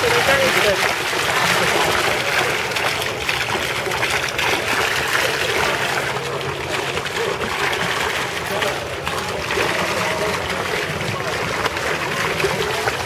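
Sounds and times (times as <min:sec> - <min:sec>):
water fountain splashing: 0:00.0 - 0:13.0.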